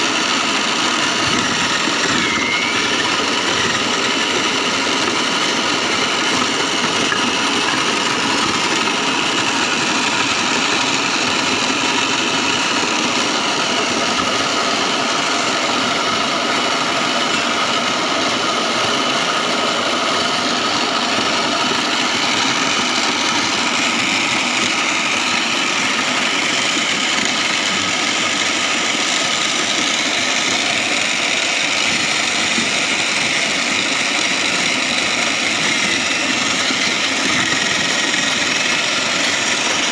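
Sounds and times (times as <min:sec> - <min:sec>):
foam shredding machine running: 0:00.0 - 0:39.9.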